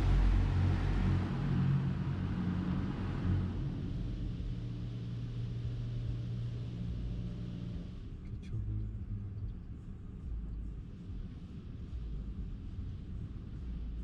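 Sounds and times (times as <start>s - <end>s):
car rumbling: 0.0s - 14.0s.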